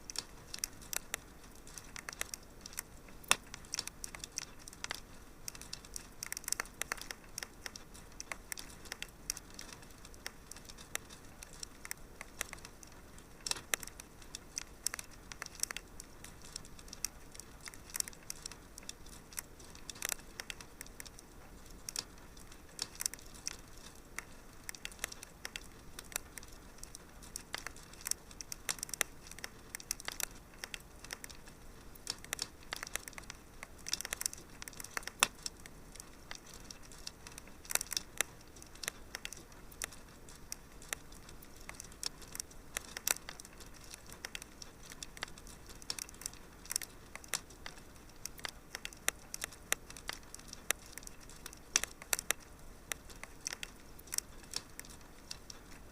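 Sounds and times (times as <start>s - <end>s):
soft fire hiss: 0.0s - 55.9s
wood fire pops and snaps: 0.0s - 55.9s.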